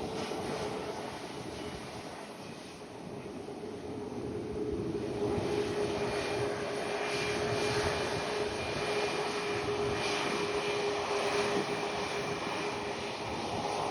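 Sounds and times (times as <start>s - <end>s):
jet engines landing: 0.0s - 13.9s.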